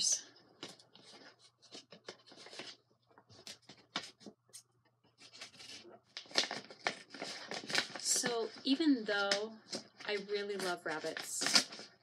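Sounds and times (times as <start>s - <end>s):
paper crinkling: 0.5s - 12.0s.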